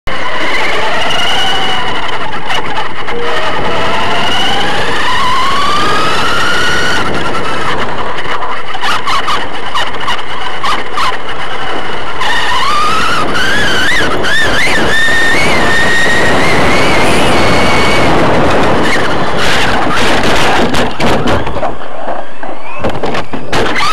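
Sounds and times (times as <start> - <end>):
toy car motor whine: 0.1 - 20.2
wind and tyres on dirt: 0.1 - 23.9.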